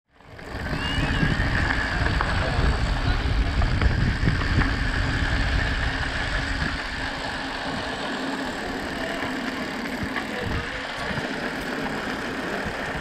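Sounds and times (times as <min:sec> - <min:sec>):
bike tyres crunching on gravel: 0:00.2 - 0:13.0
heavy low rumble: 0:00.3 - 0:13.0.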